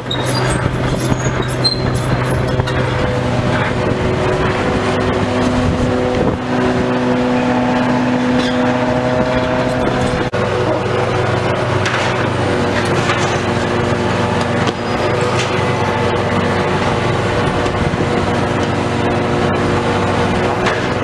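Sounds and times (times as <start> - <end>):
demolition machinery engine drone: 0.0 - 21.0.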